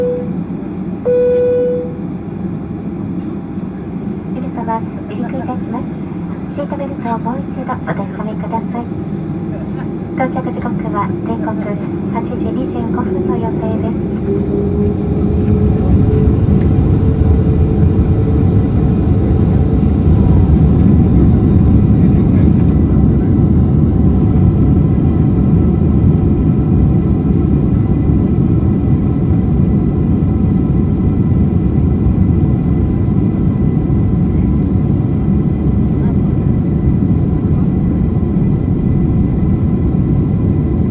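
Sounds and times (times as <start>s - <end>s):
faint engine whine: 0.0s - 40.9s
jet engines rumbling: 0.0s - 40.9s.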